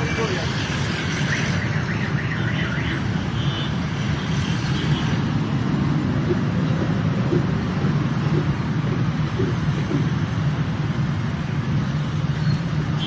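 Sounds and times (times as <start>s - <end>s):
busy street traffic rumble: 0.0s - 13.0s.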